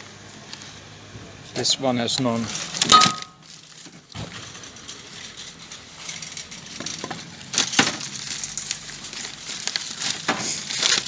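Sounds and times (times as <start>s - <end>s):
trash bin and rubbish handled: 0.0s - 11.0s.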